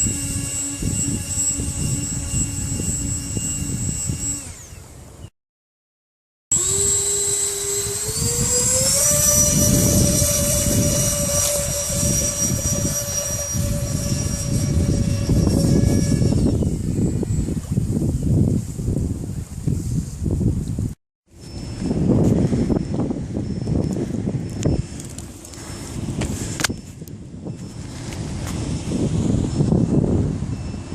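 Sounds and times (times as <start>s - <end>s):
electric fan high whine: 0.0s - 5.3s, 6.5s - 19.5s, 21.3s - 30.9s.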